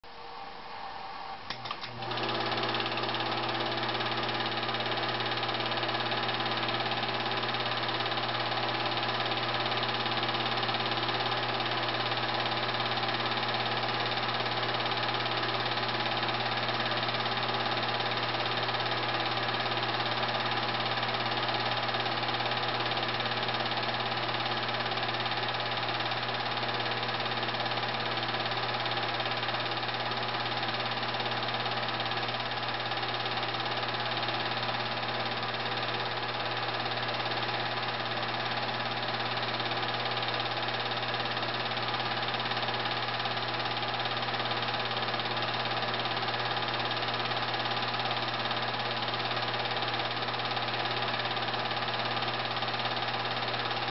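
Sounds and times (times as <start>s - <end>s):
film projector humming: 0.1s - 53.9s.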